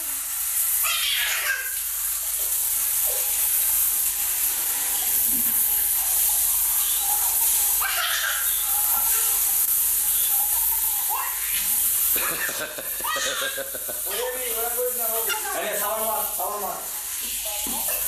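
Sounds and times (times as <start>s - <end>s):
shower water spraying: 0.0s - 18.0s.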